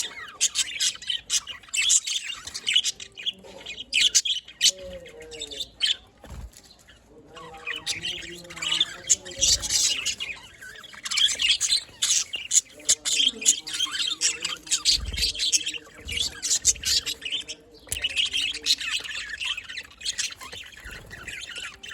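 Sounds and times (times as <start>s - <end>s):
budgerigars chirping: 0.0s - 21.9s.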